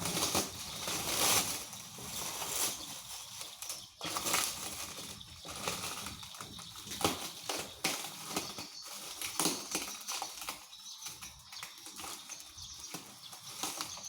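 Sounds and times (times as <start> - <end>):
packaging rustling and crinkling: 0.0 - 14.0
sharp crackles and clicks: 0.0 - 14.0.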